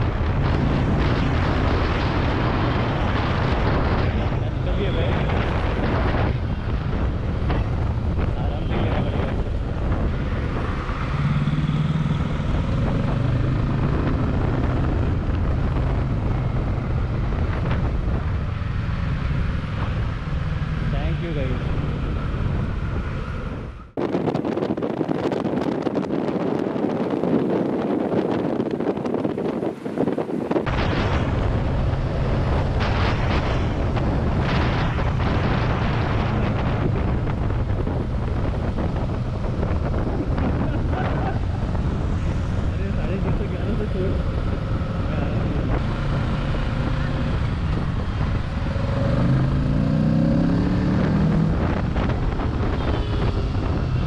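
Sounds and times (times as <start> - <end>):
wind rushing noise: 0.0 - 54.0.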